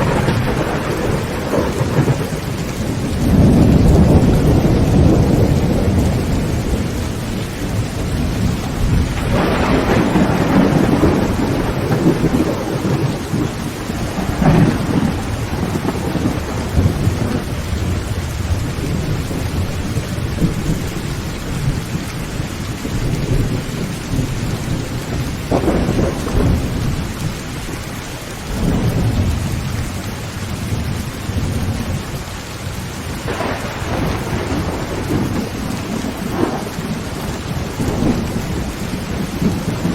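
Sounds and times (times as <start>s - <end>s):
heavy rain on a tin roof: 0.0s - 39.9s
thunder rumbling: 0.0s - 39.9s.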